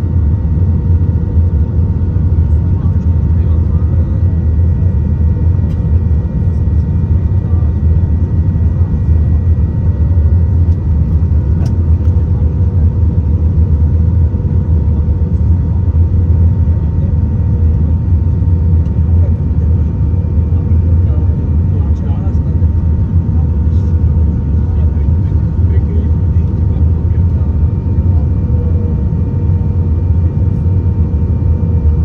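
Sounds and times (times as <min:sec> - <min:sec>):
low rumble of engines and airflow: 0:00.0 - 0:32.0.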